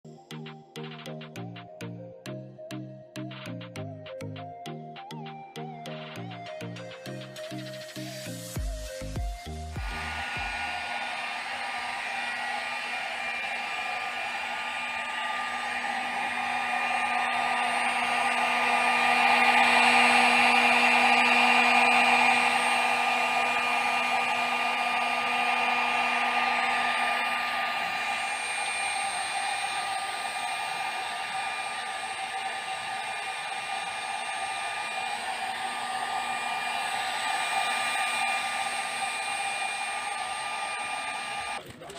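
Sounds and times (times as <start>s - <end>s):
hair dryer blowing: 5.7s - 41.9s.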